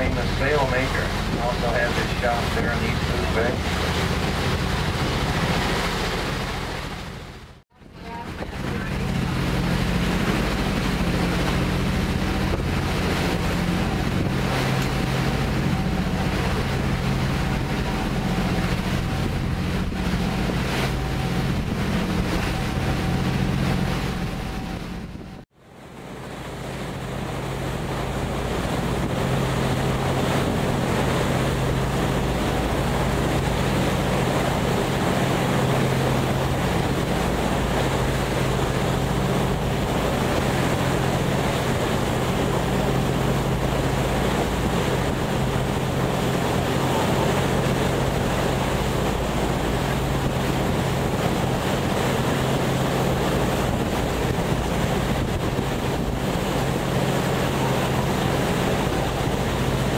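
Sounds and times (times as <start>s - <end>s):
wind on microphone: 0.0s - 25.4s, 26.2s - 59.9s
boat engine humming: 0.0s - 59.9s
water rushing past hull: 0.0s - 59.9s.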